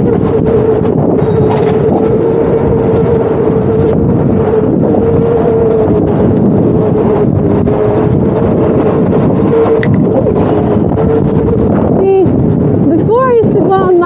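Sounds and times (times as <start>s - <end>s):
electric hub motor whining: 0.0s - 14.0s
wind rushing over microphone: 0.0s - 14.0s.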